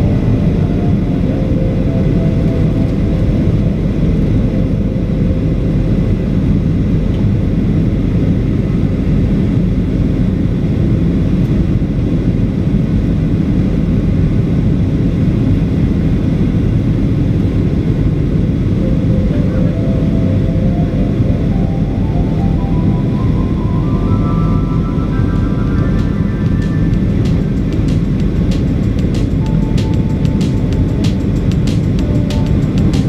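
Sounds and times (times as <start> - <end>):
airplane cabin roar: 0.0 - 33.0.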